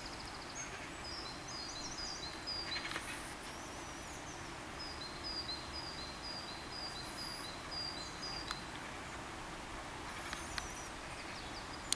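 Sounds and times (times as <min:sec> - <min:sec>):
outdoor background hiss: 0:00.0 - 0:11.9.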